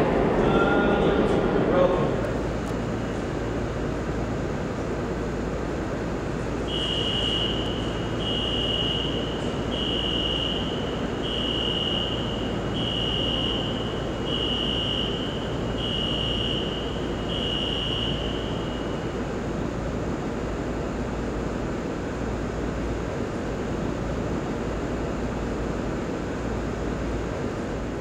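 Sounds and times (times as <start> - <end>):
station background noise: 0.0 - 28.0.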